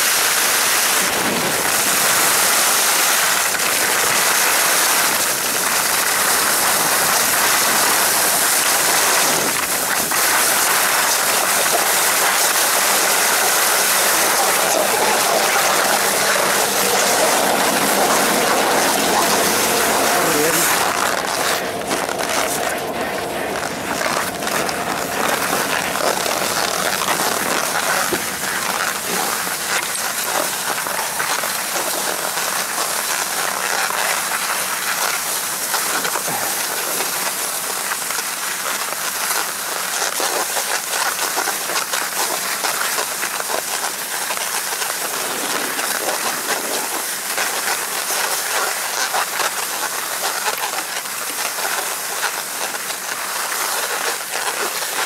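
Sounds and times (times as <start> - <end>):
skis sliding over snow: 0.0 - 55.0.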